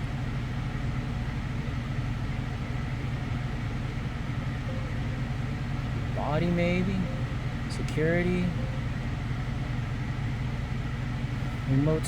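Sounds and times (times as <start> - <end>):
low machine rumble pulsing: 0.0 - 12.0.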